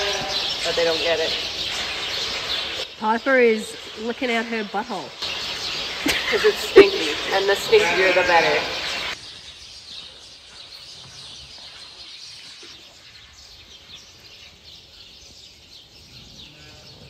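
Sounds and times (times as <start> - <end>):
faint outdoor background hum: 0.0 - 17.0
small birds chirping: 0.0 - 17.0.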